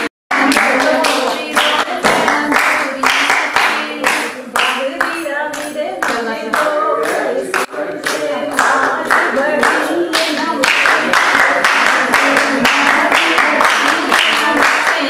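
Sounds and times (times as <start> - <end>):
group singing: 0.0 - 15.0
steady hand clapping: 0.0 - 15.0.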